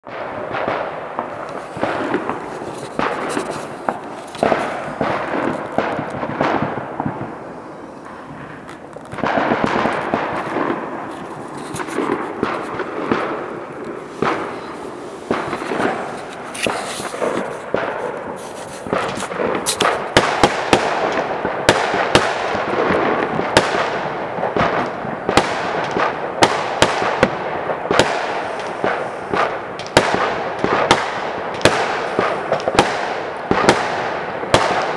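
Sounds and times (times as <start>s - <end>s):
crackle of explosions: 0.0s - 34.9s
fireworks bangs and pops: 0.0s - 34.9s.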